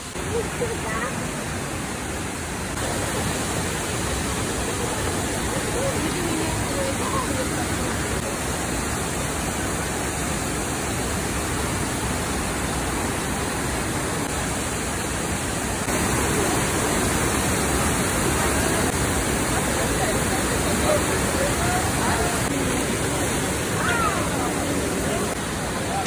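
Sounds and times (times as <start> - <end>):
waterfall roar: 0.0 - 26.0.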